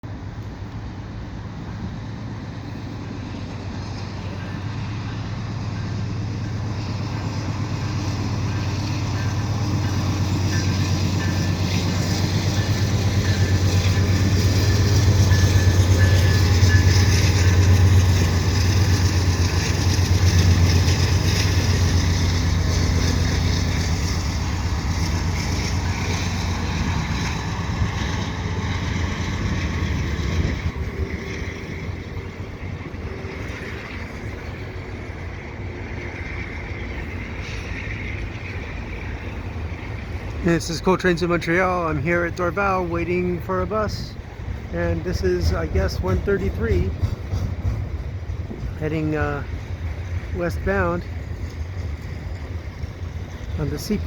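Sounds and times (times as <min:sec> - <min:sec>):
freight train rolling by: 0:00.0 - 0:54.0
locomotive engine drone: 0:00.0 - 0:54.0.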